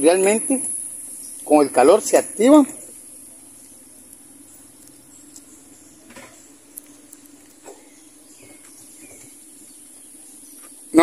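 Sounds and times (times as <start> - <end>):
high insect hiss: 0.0 - 11.0.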